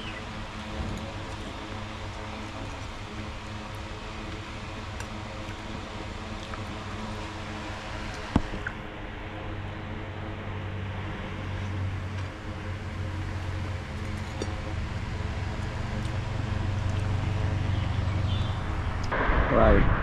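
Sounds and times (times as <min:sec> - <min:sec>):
mechanical hum with low rumble: 0:00.0 - 0:20.0.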